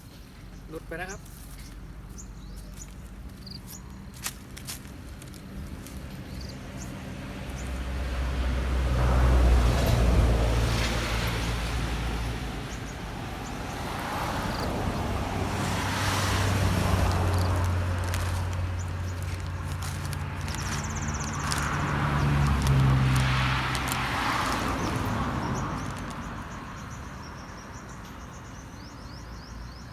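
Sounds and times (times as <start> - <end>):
vehicles passing by: 0.0 - 29.9.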